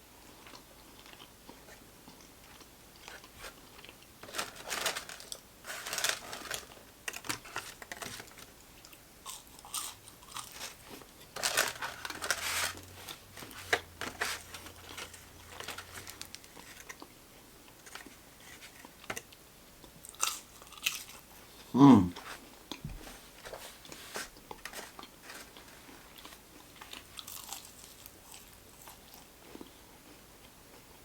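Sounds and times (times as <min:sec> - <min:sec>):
person chewing crispy food: 0:00.2 - 0:19.1, 0:19.8 - 0:22.8, 0:23.8 - 0:31.0.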